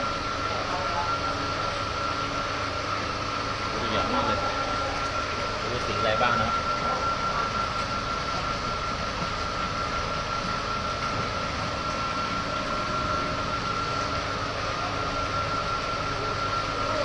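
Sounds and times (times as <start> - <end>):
high-pitched whine: 0.0 - 17.0
machinery hum and hiss: 0.0 - 17.0.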